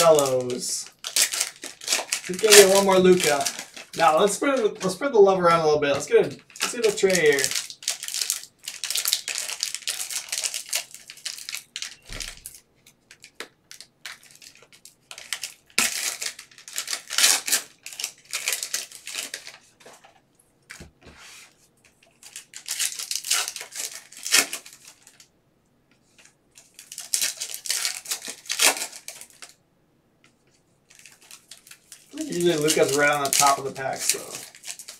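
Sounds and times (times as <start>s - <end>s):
plastic wrappers tearing and crinkling: 0.0s - 5.2s, 5.8s - 20.8s, 21.8s - 25.3s, 26.0s - 29.6s, 30.8s - 34.9s.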